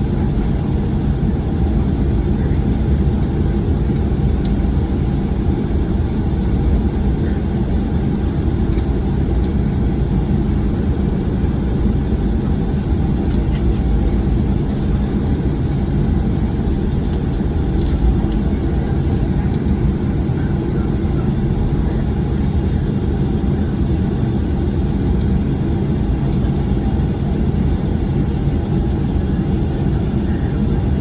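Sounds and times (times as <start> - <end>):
aircraft cabin engine rumble: 0.0 - 31.0.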